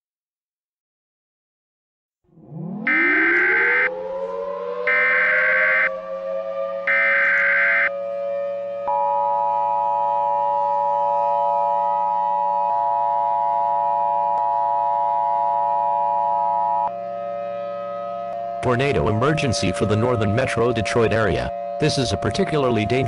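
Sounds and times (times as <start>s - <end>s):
steady siren tone: 2.3s - 23.0s.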